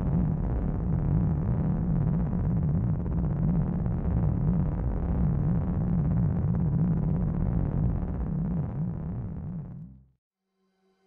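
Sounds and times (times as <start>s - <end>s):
dark rumbling noise: 0.0s - 10.0s.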